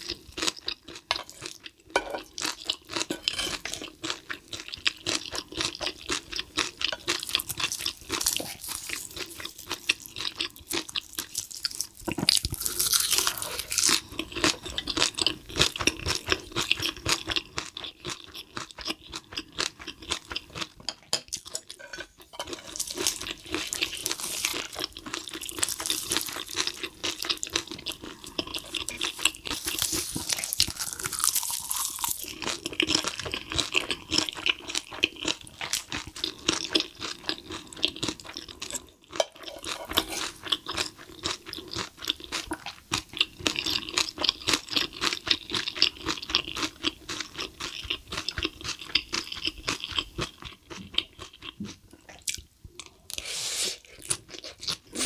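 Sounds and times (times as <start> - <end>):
mouth chewing food: 0.0 - 55.0.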